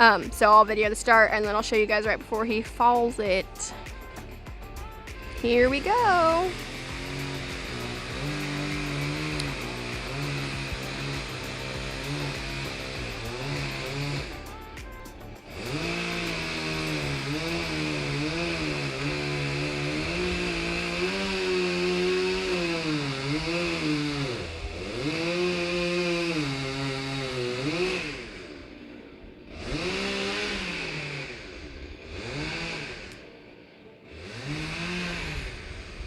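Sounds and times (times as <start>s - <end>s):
chainsaw cutting wood: 0.0s - 33.4s, 34.1s - 36.0s.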